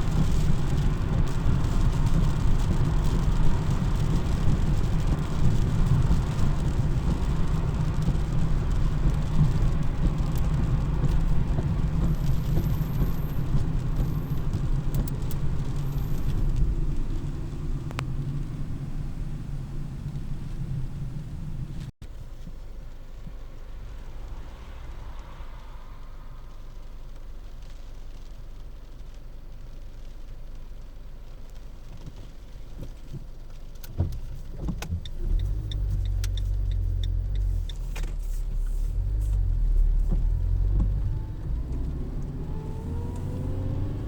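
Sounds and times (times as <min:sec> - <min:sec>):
car engine and tyre rumble: 0:00.0 - 0:44.0.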